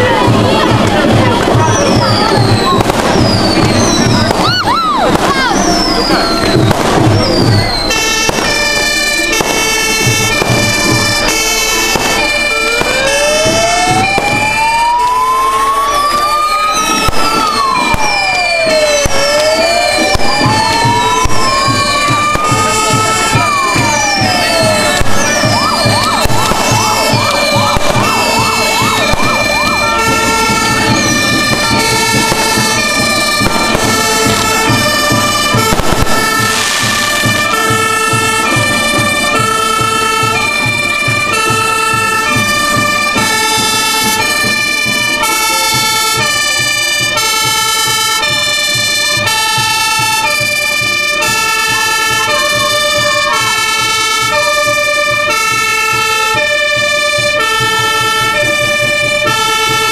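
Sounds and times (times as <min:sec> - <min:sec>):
crowd noise: 0:00.0 - 0:59.9
fire engine two-tone siren: 0:00.0 - 0:59.9
crackling: 0:00.8 - 0:55.8.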